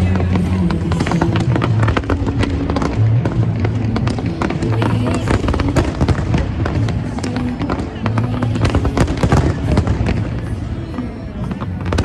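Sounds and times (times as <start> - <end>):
crowd voices: 0.0 - 12.0
fireworks bangs and crackling: 0.0 - 12.0
music with a steady beat: 0.0 - 12.0.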